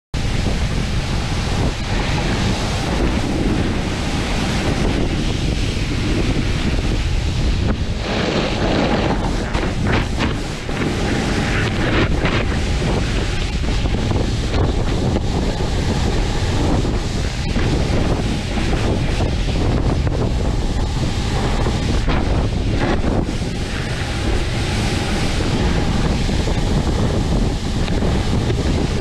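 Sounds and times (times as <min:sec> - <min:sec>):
wind buffeting microphone: 0:00.1 - 0:29.0
snowboard sliding through snow: 0:00.2 - 0:29.0.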